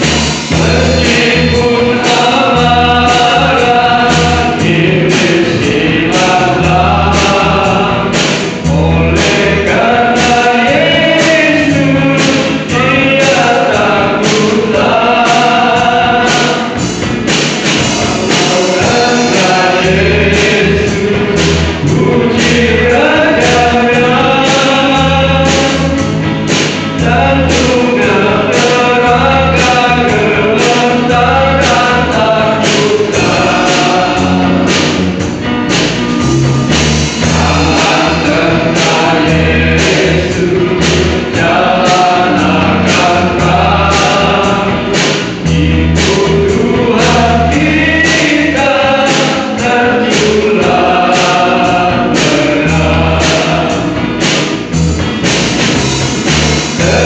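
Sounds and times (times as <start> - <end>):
men singing into microphones: 0.0 - 55.2, 56.6 - 57.0
accompaniment with steady beat: 0.0 - 57.0.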